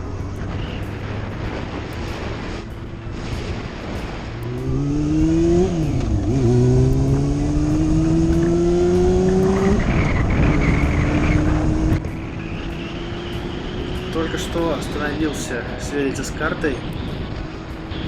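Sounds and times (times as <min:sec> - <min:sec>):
motorcycle engine pulling hard: 0:00.0 - 0:14.7
wind rush: 0:00.0 - 0:18.0.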